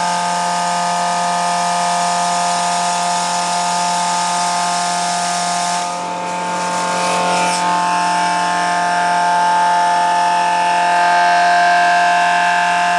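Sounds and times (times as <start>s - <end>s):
feed mill machine drone: 0.0s - 12.9s.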